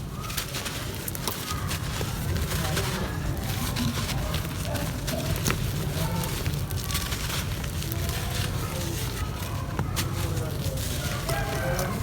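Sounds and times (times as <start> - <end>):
dry earth crumbling by hand: 0.0 - 12.0.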